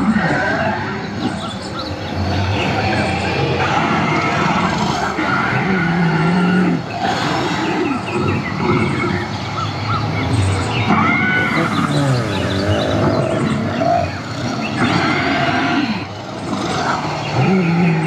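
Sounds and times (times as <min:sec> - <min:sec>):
dinosaur growls and roars: 0:00.0 - 0:18.0.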